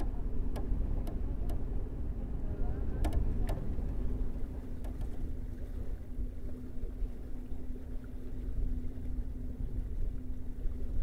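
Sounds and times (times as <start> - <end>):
faint constant hum: 0.0 - 11.0
ship low rumble: 0.0 - 11.0.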